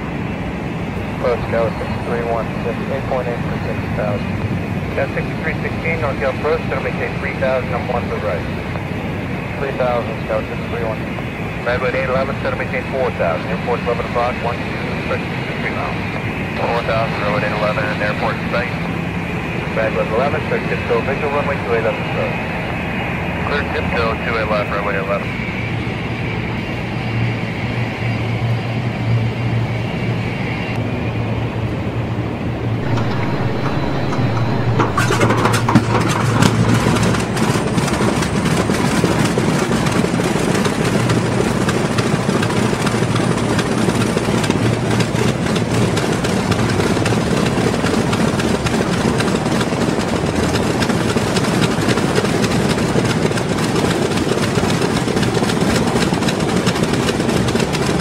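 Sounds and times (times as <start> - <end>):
piston aircraft engines droning: 0.0 - 58.0.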